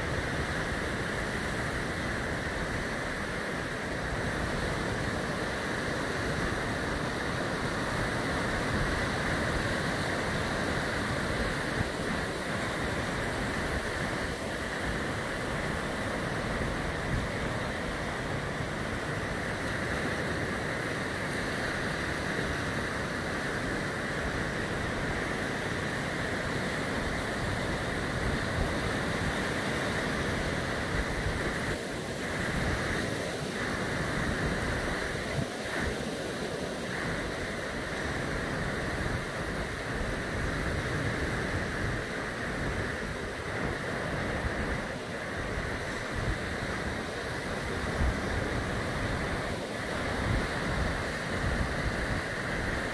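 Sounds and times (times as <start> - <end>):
surf washing up beach: 0.0 - 52.9
wind rumbling on microphone: 0.0 - 52.9.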